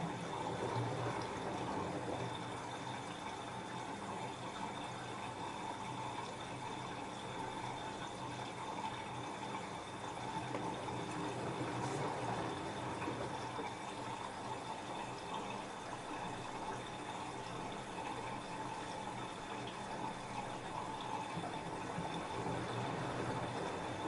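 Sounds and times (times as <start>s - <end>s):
washing machine water splashing: 0.0s - 24.0s.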